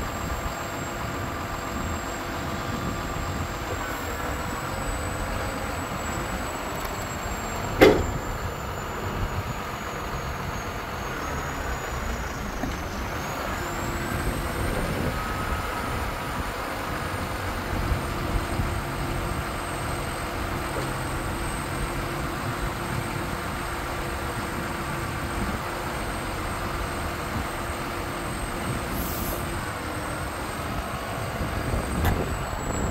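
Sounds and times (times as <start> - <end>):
diesel truck engine running: 0.0 - 32.9.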